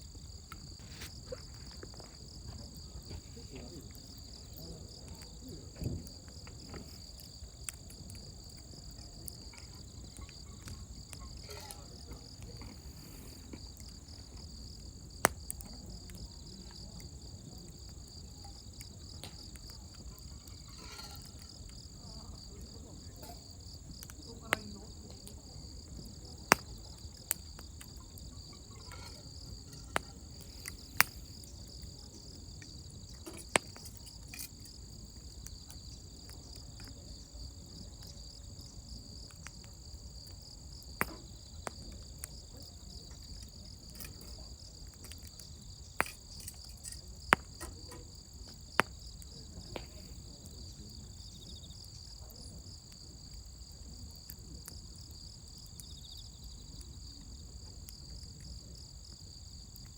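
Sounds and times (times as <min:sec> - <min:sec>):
campfire crackling pops: 0:00.0 - 0:59.9.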